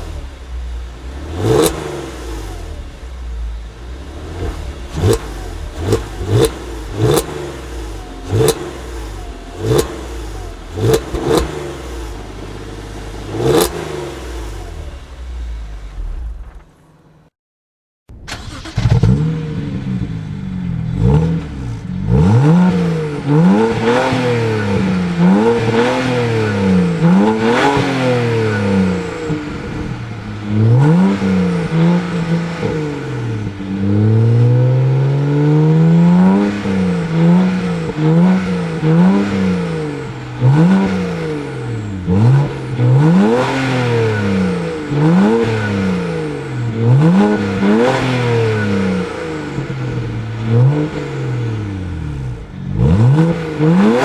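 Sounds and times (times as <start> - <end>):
car engine revving: 0.0 - 16.8, 18.3 - 54.0.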